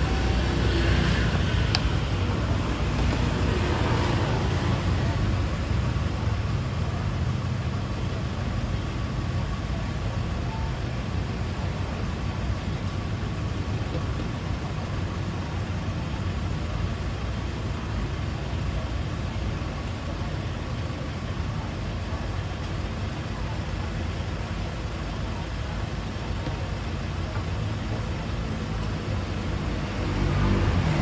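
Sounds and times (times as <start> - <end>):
low rumble of road traffic: 0.0 - 31.0.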